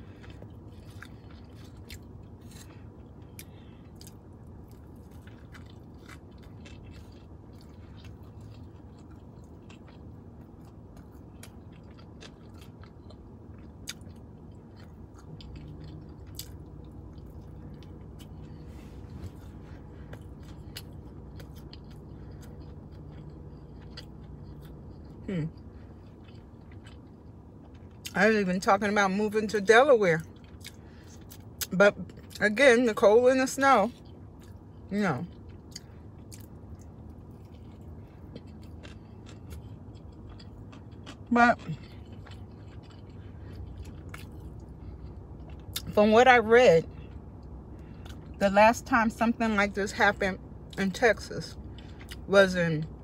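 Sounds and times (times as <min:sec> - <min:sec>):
close-up chewing: 0:00.0 - 0:28.2, 0:30.2 - 0:32.6, 0:33.8 - 0:46.0, 0:46.9 - 0:48.4, 0:50.6 - 0:52.3
steady low hum: 0:00.0 - 0:53.0.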